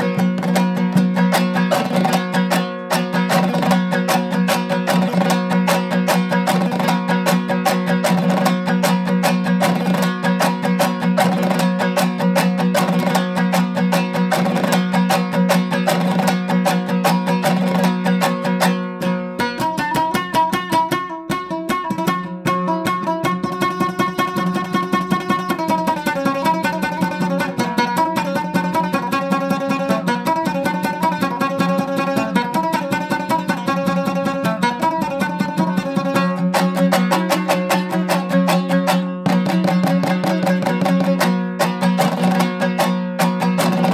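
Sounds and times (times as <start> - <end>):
plucked string instrument: 0.0 - 43.9.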